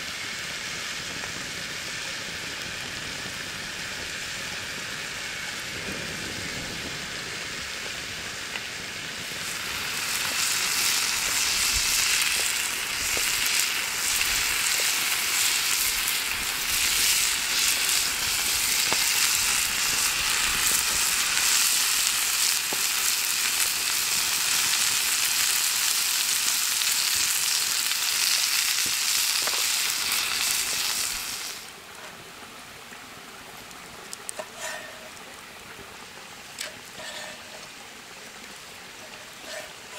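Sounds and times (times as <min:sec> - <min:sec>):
food sizzling in hot oil: 0:00.0 - 0:32.2, 0:34.1 - 0:39.9.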